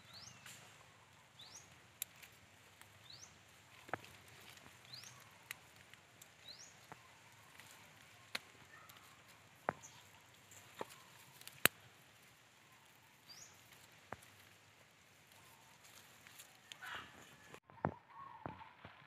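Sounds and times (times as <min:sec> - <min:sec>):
twigs clicking and snapping: 0:00.0 - 0:17.6.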